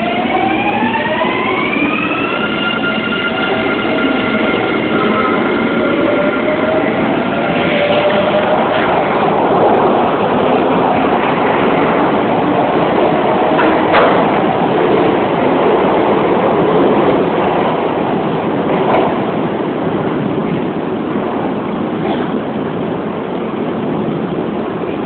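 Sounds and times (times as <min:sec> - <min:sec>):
train rushing through station: 0:00.0 - 0:25.0.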